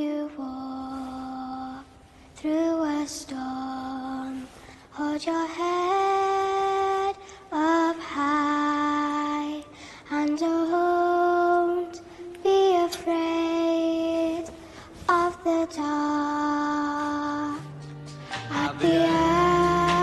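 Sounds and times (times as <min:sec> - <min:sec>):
woman singing slow lullaby: 0:00.0 - 0:17.8, 0:18.5 - 0:20.0.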